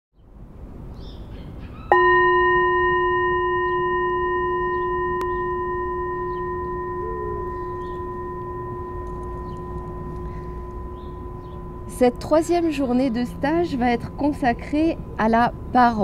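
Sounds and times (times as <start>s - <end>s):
singing bowl ringing: 1.9s - 16.0s.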